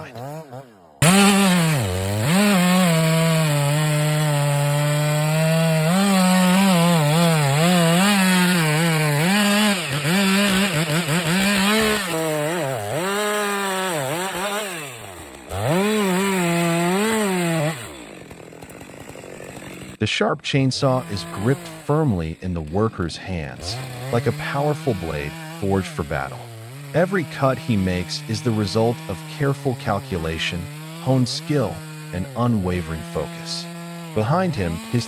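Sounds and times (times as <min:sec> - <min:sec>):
chainsaw cutting wood: 0:00.0 - 0:20.0, 0:20.7 - 0:35.0.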